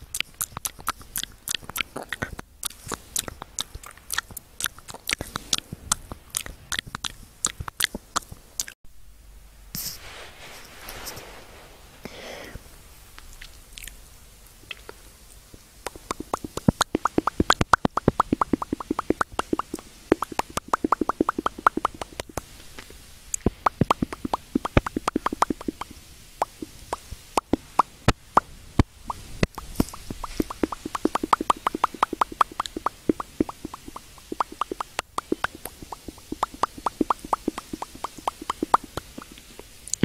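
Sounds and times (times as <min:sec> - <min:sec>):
wet mouth clicks and pops: 0:00.0 - 0:08.8, 0:13.2 - 0:14.0, 0:15.8 - 0:40.0.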